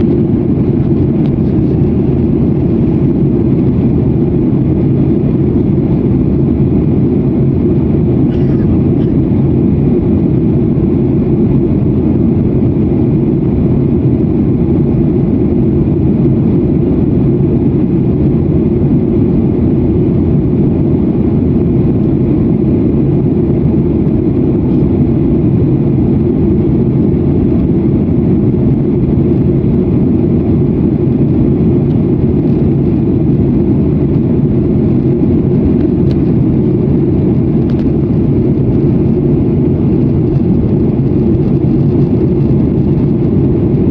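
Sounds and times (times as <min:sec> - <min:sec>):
jet airliner cabin rumble: 0:00.0 - 0:43.9.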